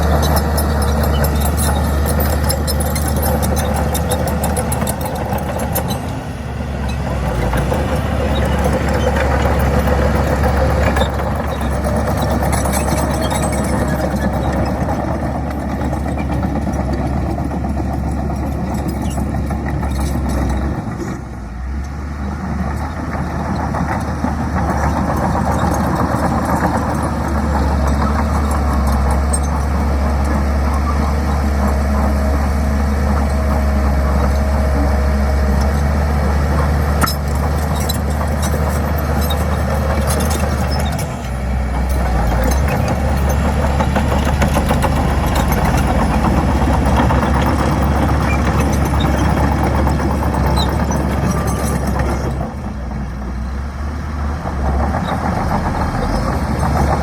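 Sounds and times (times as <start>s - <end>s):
heavy machine diesel engine running: 0.0s - 57.0s.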